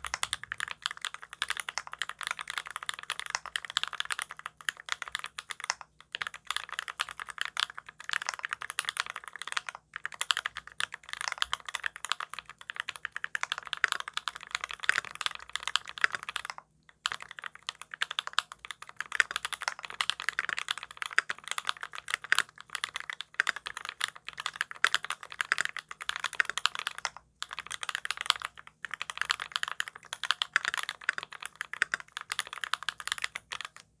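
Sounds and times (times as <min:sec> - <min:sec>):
mechanical keyboard typing: 0:00.0 - 0:34.0.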